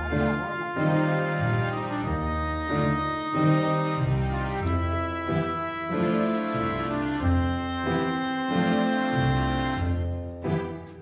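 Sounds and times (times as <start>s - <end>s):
sustained string-like chords: 0.0s - 11.0s.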